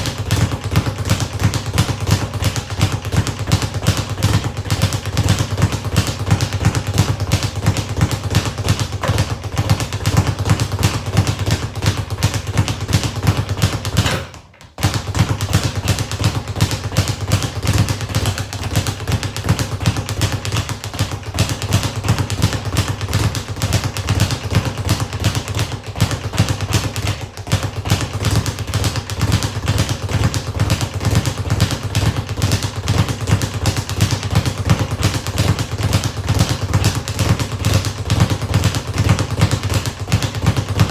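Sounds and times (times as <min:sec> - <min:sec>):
speed bag being punched: 0:00.0 - 0:40.9.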